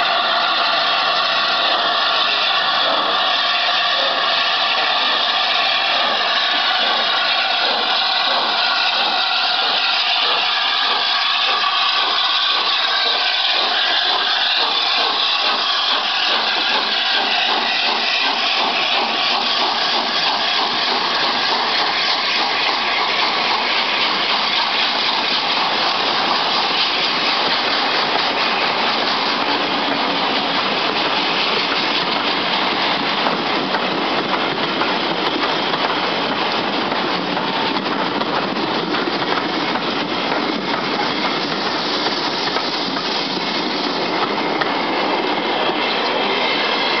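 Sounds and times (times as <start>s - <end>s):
train wheels clattering on rails: 0.0s - 47.0s.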